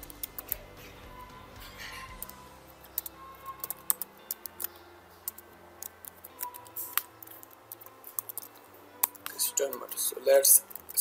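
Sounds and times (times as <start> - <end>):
keyboard typing: 0.0 - 0.7, 2.1 - 11.0.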